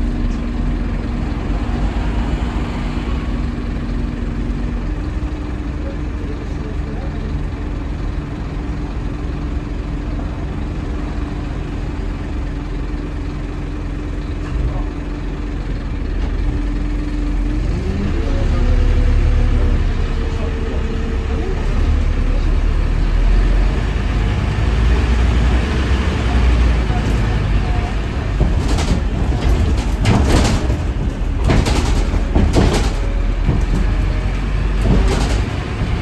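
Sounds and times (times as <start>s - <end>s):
bus engine idling and revving: 0.0s - 36.0s.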